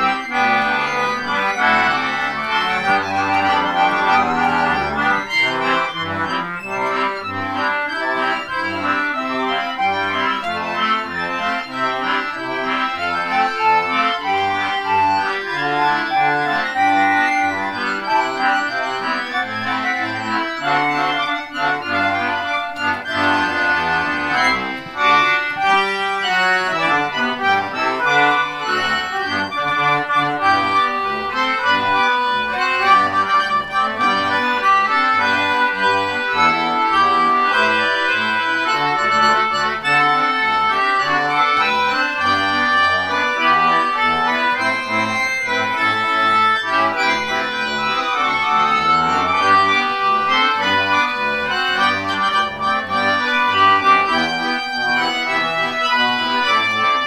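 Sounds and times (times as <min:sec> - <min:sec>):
concertina band playing a march: 0:00.0 - 0:57.0.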